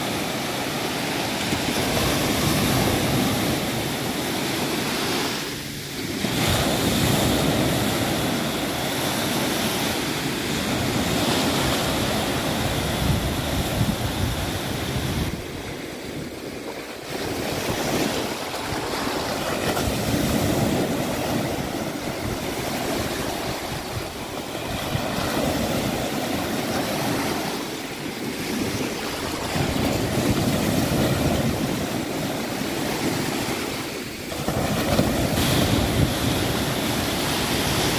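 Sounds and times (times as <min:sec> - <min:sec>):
small waves breaking on beach: 0:00.0 - 0:37.9.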